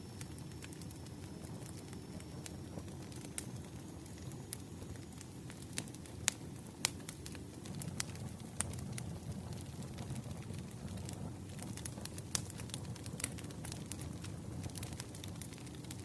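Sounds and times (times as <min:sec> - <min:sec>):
burning logs popping: 0:00.0 - 0:16.0
low rumble of flames: 0:00.0 - 0:16.0
wood fire crackling: 0:00.0 - 0:16.0.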